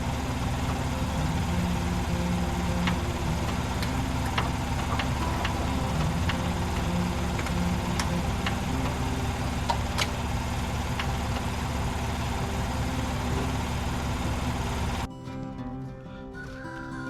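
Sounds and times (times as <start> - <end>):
tractor engine idling: 0.0 - 15.1.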